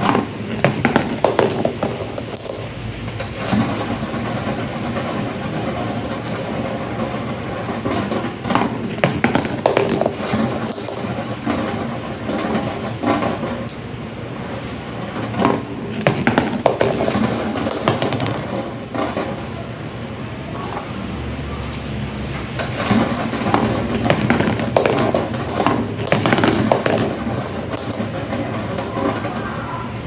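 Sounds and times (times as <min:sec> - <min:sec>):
marbles clicking and clacking: 0:00.0 - 0:14.2, 0:15.0 - 0:19.8, 0:22.6 - 0:29.6
glass marbles rolling on track: 0:00.0 - 0:19.9, 0:20.5 - 0:21.8, 0:22.5 - 0:29.8.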